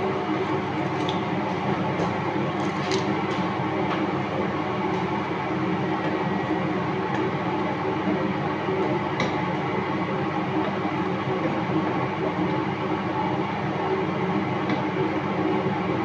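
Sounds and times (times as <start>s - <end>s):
range hood fan running: 0.0s - 16.0s.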